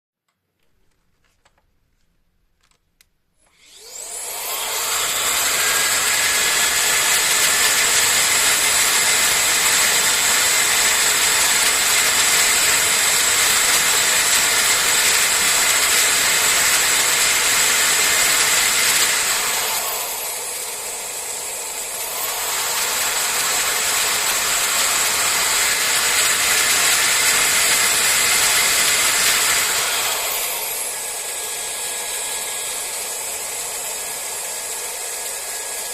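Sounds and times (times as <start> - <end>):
hair dryer blowing with high whine: 3.4 - 35.9.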